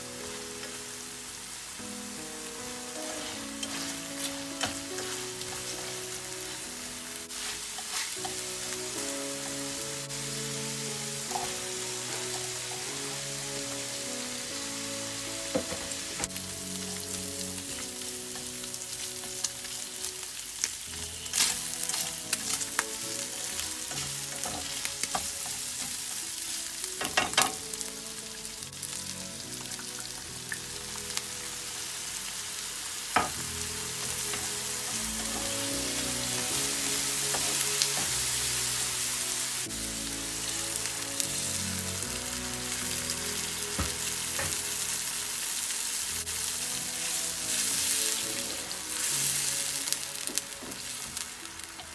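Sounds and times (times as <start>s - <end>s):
meat sizzling in hot oil: 0.0s - 51.9s.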